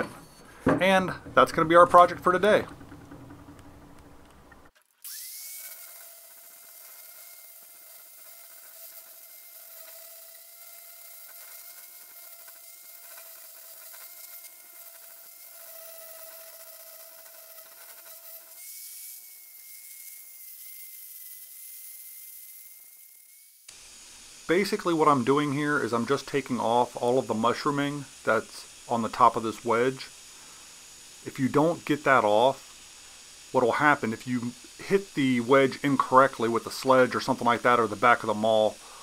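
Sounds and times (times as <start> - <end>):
angle grinder grinding steel: 0.0 - 4.3, 5.0 - 39.0.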